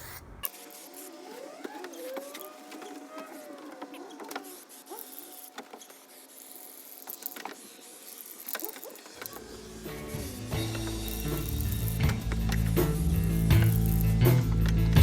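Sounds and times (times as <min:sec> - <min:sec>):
background music: 0:00.6 - 0:15.0.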